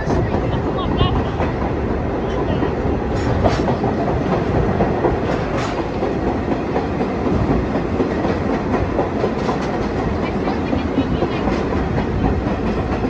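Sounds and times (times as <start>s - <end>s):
train rumbling: 0.0s - 13.0s
wheels clickety-clack on rail joints: 0.0s - 13.0s.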